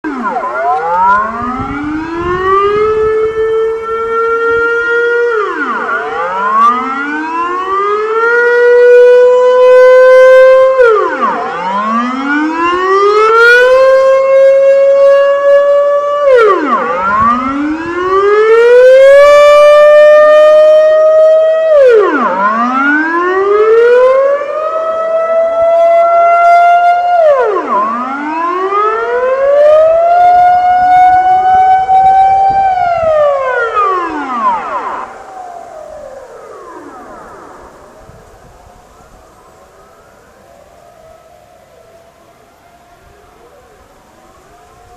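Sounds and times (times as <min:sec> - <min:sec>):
civil defence sirens wailing: 0:00.0 - 0:44.9.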